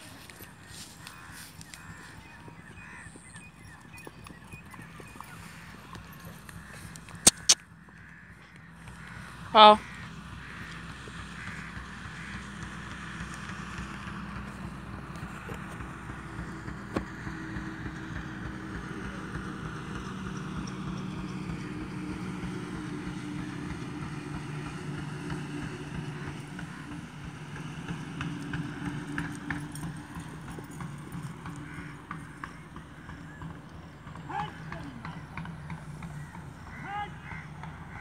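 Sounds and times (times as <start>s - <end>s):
horse hoofbeats: 0.0s - 38.0s
steady engine hum: 0.0s - 38.0s.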